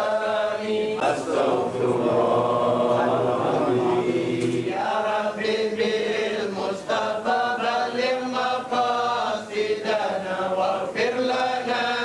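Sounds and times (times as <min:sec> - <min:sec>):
religious chanting voice: 0:00.0 - 0:12.0.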